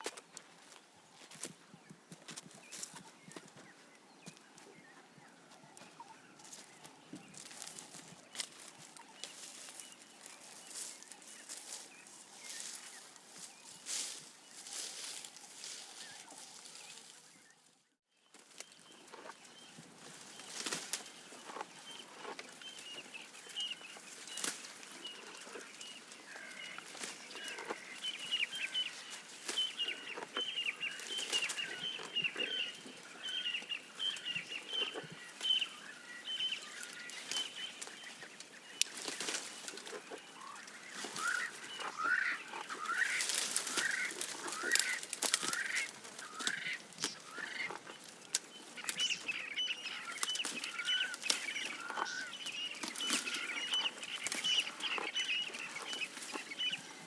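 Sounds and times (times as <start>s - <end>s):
birds chirping: 0.0s - 57.0s
leaves and twigs snapping: 7.4s - 17.4s, 18.3s - 56.8s.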